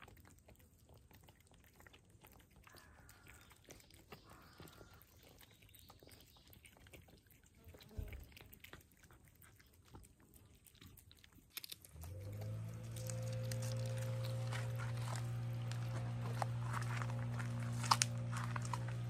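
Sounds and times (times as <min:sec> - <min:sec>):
cats crunching dry food: 0:00.0 - 0:19.0.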